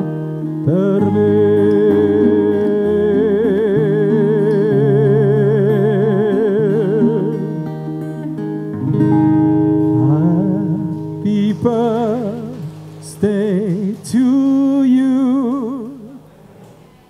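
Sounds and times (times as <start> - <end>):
man singing with vibrato: 0.0 - 8.0, 9.7 - 16.4
acoustic guitar backing track: 0.0 - 17.0.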